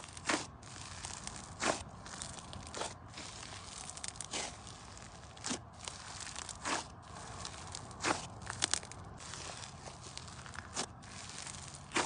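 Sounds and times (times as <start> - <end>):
slime crackling: 0.0 - 12.0
slime crunching squeezes: 0.0 - 12.0.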